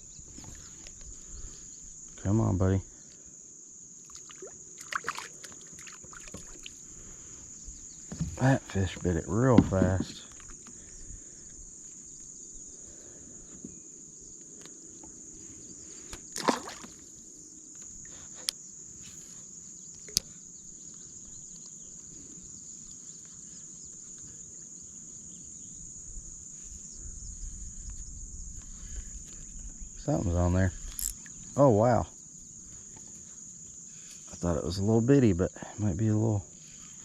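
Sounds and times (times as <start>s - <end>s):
insects calling: 0.0s - 37.0s.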